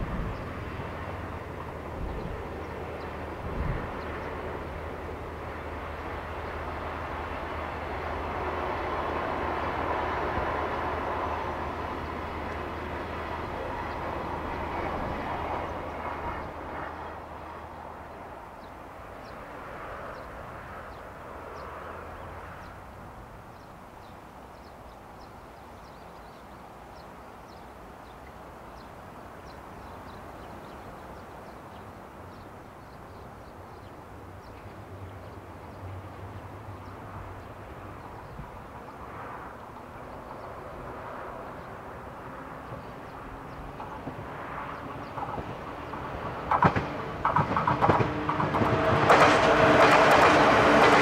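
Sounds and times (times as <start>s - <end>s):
train running past: 0.0s - 24.4s, 29.4s - 51.0s.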